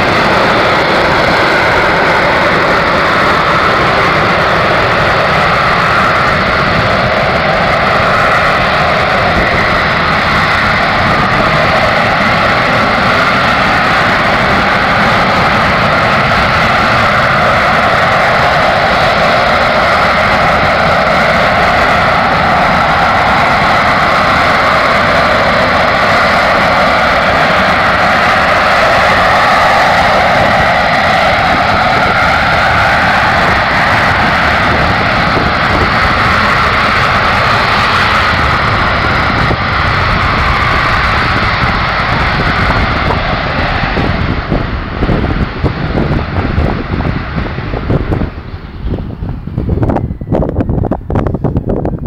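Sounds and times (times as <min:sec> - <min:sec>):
jet engine roaring in hover: 0:00.0 - 0:52.0.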